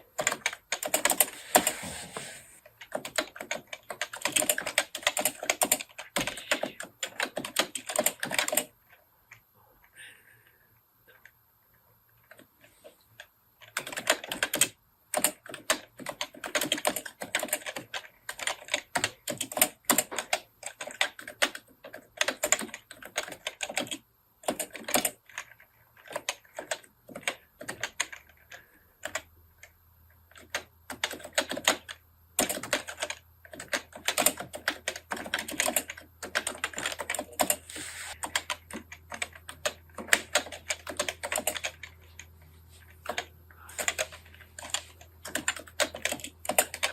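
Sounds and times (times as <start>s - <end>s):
fast typing on keyboard: 0.0s - 9.4s, 12.2s - 46.9s.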